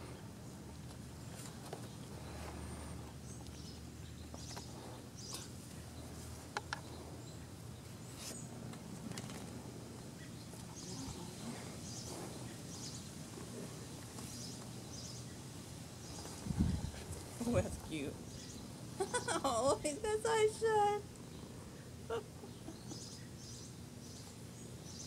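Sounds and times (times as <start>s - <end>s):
birds chirping: 0.0s - 25.0s
low background hum: 0.0s - 25.0s.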